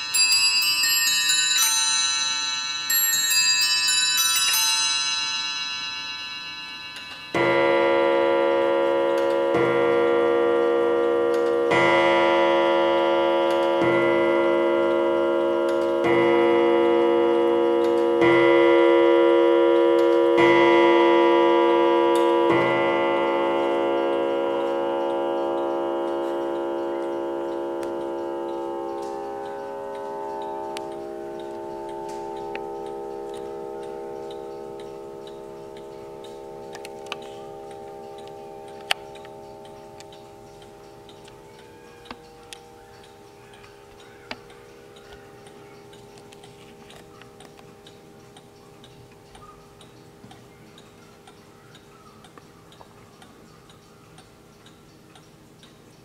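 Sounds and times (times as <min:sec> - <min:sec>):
clock chiming on bells: 0:00.0 - 0:56.0
clock striking on deep gong: 0:05.1 - 0:50.0.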